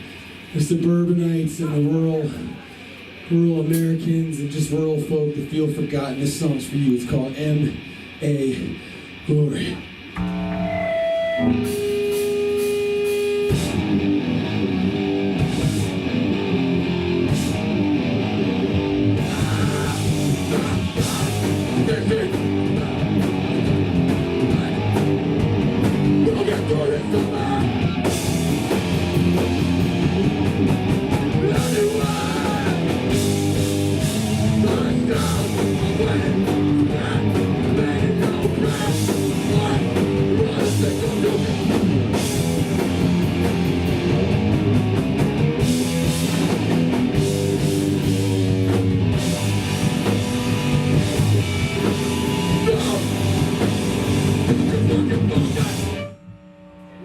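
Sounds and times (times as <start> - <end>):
bass guitar: 0.0 - 56.4
distorted electric guitars: 0.0 - 57.0
pounding drum kit: 9.8 - 56.1.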